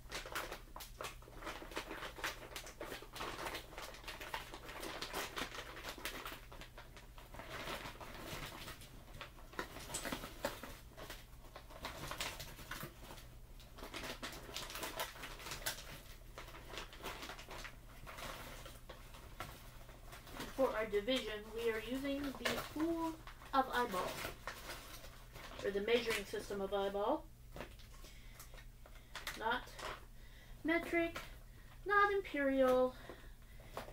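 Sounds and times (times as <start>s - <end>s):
plastic bag crinkling: 0.0s - 33.9s.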